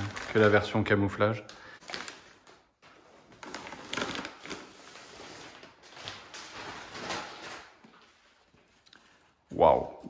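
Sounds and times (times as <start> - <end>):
packaging rustling and crinkling: 0.0 - 0.9, 1.5 - 8.8.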